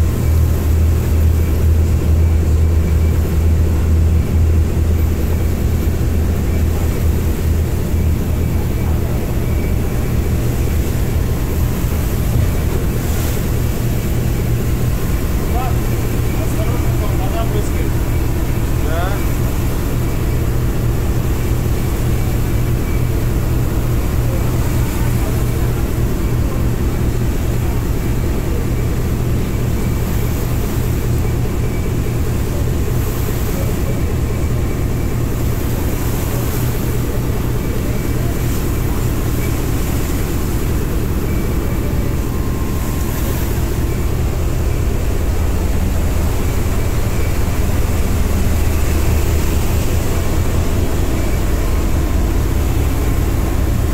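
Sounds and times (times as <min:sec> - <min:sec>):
ferry engine drone: 0:00.0 - 0:53.9
wind: 0:00.0 - 0:53.9.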